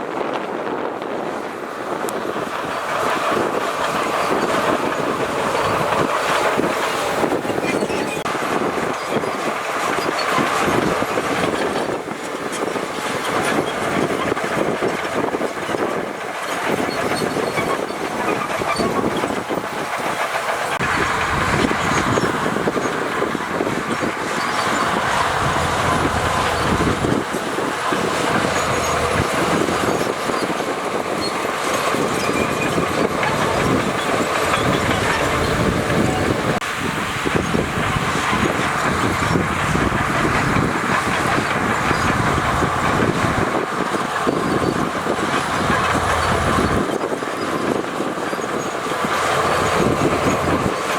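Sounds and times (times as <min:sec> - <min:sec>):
bulldozer diesel engine: 0:00.0 - 0:50.9
steel tracks clanking and rattling: 0:00.1 - 0:50.9.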